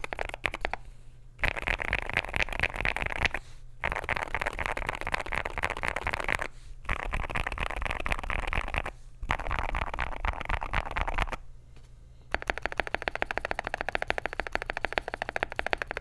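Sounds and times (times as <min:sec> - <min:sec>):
mechanical keyboard typing: 0:00.0 - 0:00.8, 0:01.4 - 0:11.4, 0:12.3 - 0:16.0.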